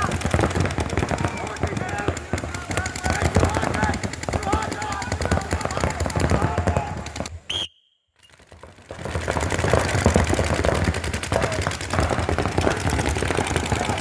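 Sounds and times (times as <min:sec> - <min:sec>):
paintball markers firing: 0:00.0 - 0:14.0.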